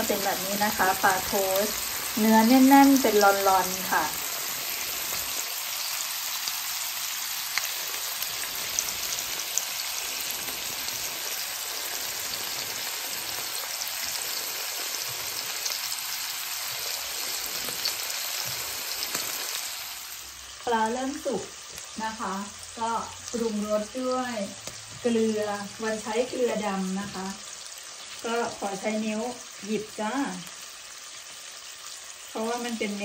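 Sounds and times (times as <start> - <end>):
fish sizzling in a pan: 0.0 - 33.0.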